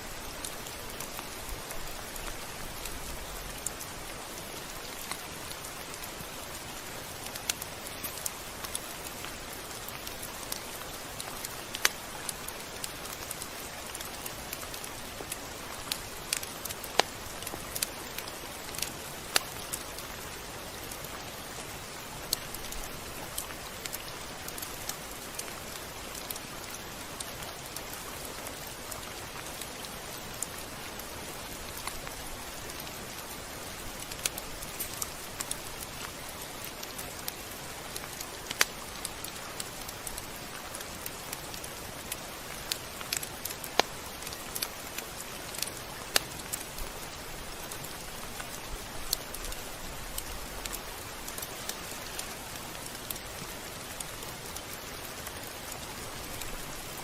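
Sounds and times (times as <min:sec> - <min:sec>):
rain hissing: 0:00.0 - 0:57.0
raindrop ticks: 0:00.0 - 0:57.0.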